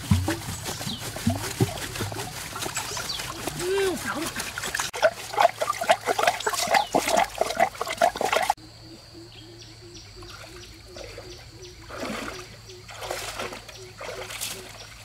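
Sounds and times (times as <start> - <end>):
pond water splashing: 0.0 - 8.6, 10.2 - 15.0.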